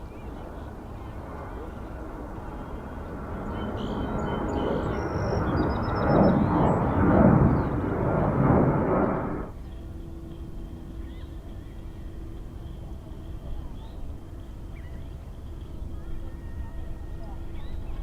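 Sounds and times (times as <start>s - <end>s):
jet airliner engine noise: 0.0s - 18.0s.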